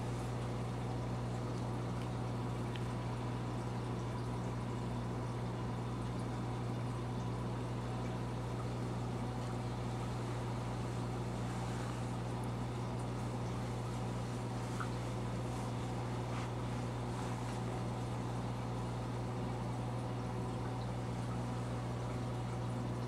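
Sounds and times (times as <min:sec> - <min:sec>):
aquarium pump humming: 0:00.0 - 0:23.0.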